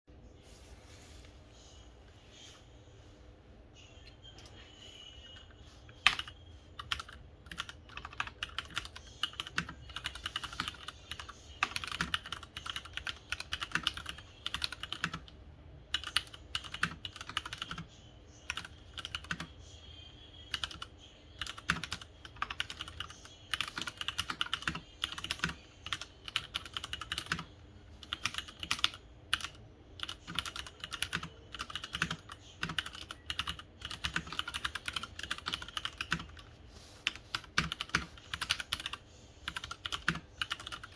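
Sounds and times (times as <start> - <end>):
mechanical keyboard typing: 6.0 - 19.5, 20.5 - 40.9.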